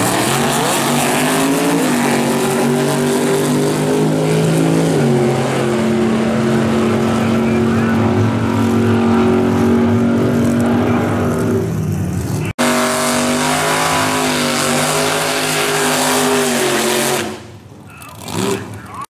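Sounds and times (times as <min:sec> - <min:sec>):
tyres spinning in burnout: 0:00.0 - 0:17.4
drag car engine revving high: 0:00.0 - 0:19.0
drag car engines at full throttle: 0:00.0 - 0:19.0.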